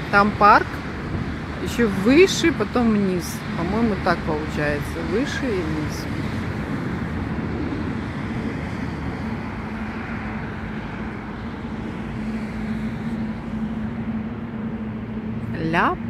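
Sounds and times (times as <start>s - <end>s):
low even drone: 0.0s - 16.0s
road traffic noise: 0.0s - 16.0s.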